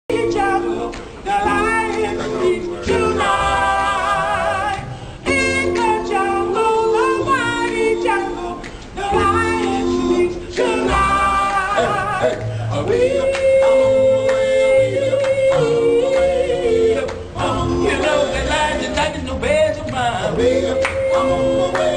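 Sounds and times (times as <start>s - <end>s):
men singing a cappella: 0.1s - 21.9s.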